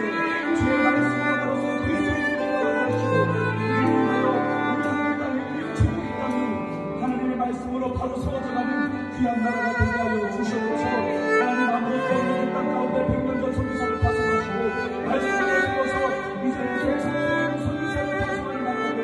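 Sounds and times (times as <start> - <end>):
violin playing slow melody: 0.0 - 19.0.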